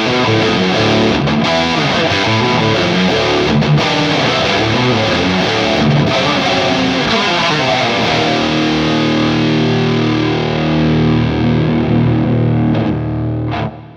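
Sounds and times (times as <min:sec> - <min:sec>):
distorted electric guitar: 0:00.0 - 0:13.9.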